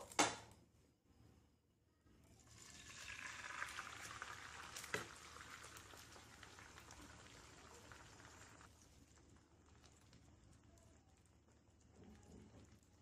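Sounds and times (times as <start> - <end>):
egg mixture sizzling in hot oil: 2.4 - 13.0.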